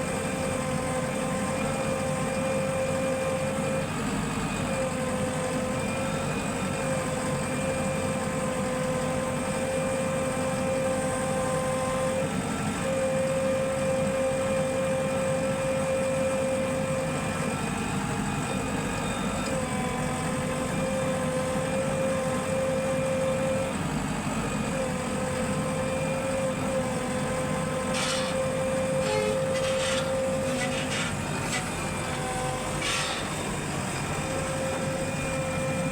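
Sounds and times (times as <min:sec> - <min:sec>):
constant whine: 0:00.0 - 0:35.9
heavy machinery engine running: 0:00.0 - 0:35.9.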